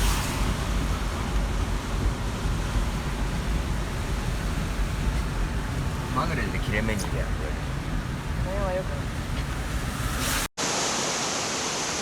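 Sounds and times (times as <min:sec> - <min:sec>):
wind rumbling on microphone: 0:00.0 - 0:10.5.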